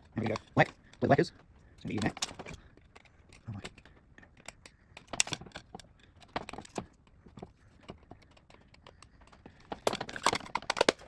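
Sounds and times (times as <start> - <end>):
clicks and taps of handling wire: 0.1 - 11.0.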